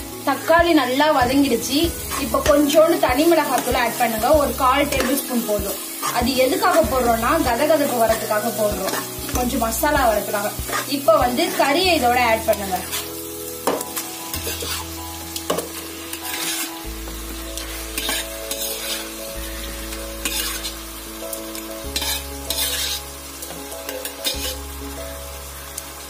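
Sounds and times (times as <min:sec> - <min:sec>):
meat sizzling in a pot: 0:00.0 - 0:26.0
soft background music: 0:00.0 - 0:26.0
steel spatula stirring: 0:01.9 - 0:20.8, 0:21.9 - 0:24.7.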